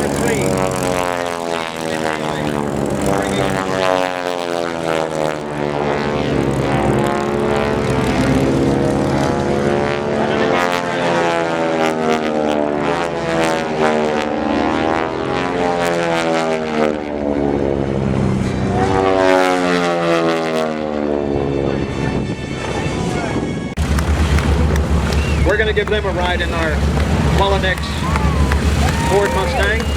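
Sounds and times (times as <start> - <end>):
propeller planes flying past: 0.0 - 29.9.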